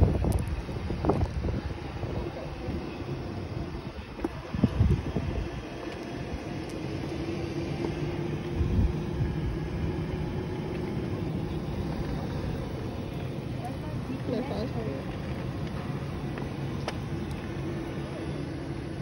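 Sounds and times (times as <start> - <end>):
golf cart hum: 0.0 - 19.0
low rumble of running noise: 0.0 - 19.0.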